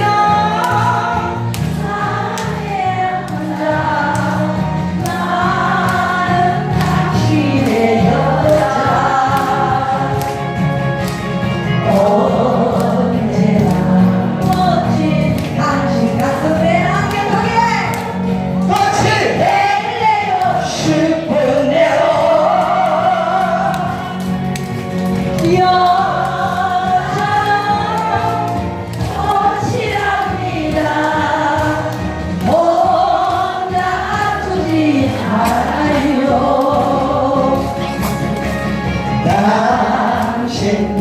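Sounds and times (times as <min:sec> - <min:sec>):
backing track: 0:00.0 - 0:41.0
group of voices singing: 0:00.0 - 0:41.0.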